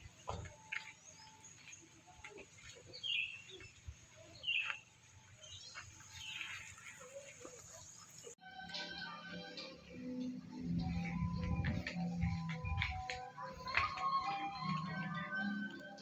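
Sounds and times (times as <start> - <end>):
birds chirping: 0.0 - 8.4, 9.5 - 16.0.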